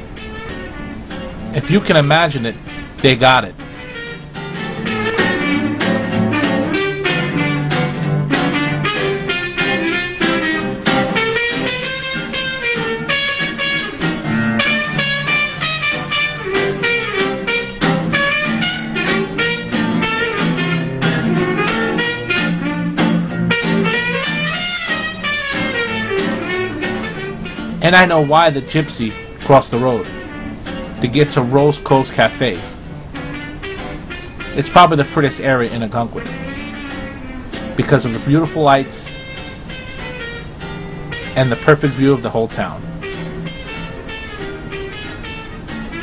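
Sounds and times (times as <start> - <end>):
instrumental music with steady beat: 0.0 - 46.0.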